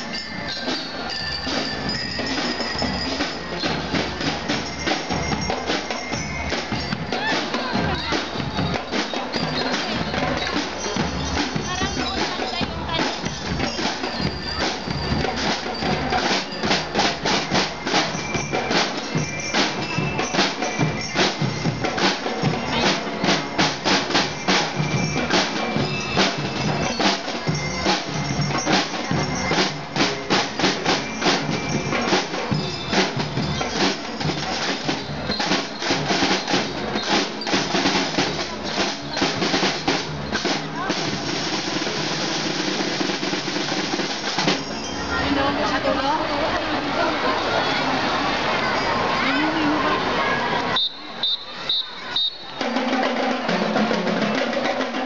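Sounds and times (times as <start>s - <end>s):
marching snare and bass drums: 0.0s - 46.9s, 50.6s - 55.0s
bell-lyre notes: 0.0s - 47.8s.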